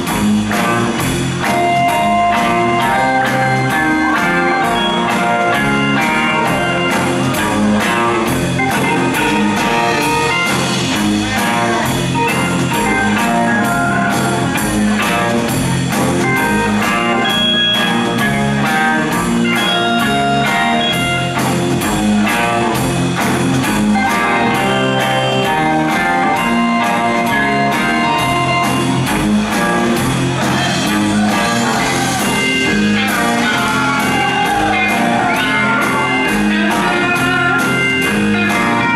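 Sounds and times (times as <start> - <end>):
blues-rock band playing: 0.0 - 38.9
drums: 0.0 - 38.9
electric guitar: 0.0 - 38.9.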